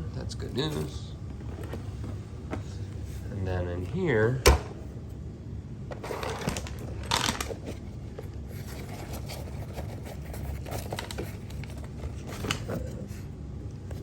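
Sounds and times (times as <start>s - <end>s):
bedding rustling and scraping: 0.2s - 4.3s, 5.9s - 14.0s.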